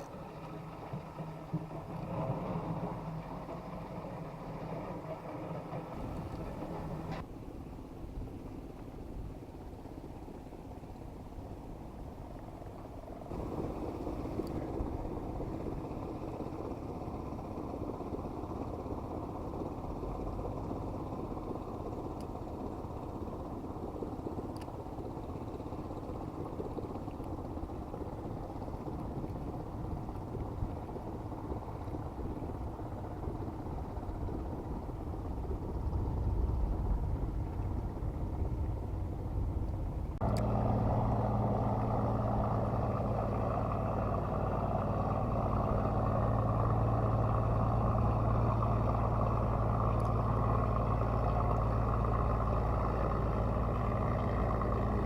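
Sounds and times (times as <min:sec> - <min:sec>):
boat motor humming: 0:00.0 - 0:07.3, 0:11.8 - 0:55.0.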